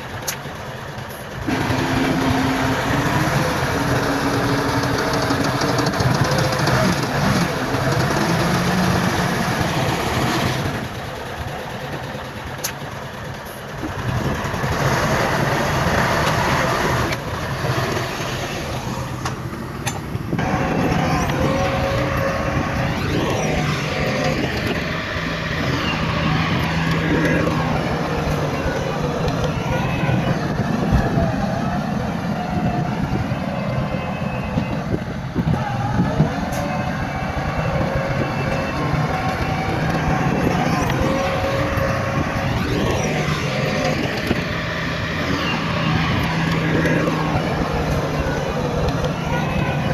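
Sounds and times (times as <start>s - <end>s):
heavy diesel machinery engines: 0.0s - 49.9s.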